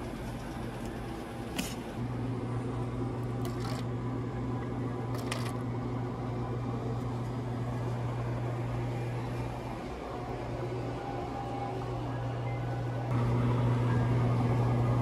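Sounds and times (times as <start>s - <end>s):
appliances humming: 0.0s - 15.0s.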